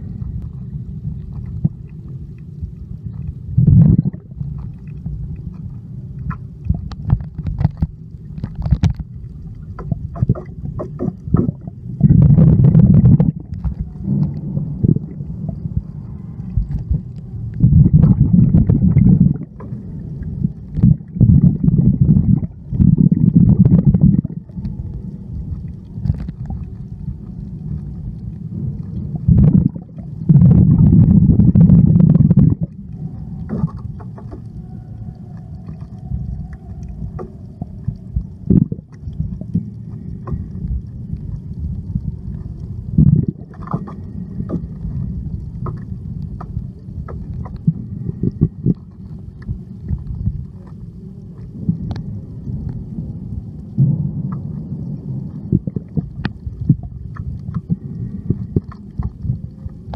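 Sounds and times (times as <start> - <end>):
underwater rumbling water movement: 0.0 - 59.9
sharp clicks underwater: 3.1 - 59.9.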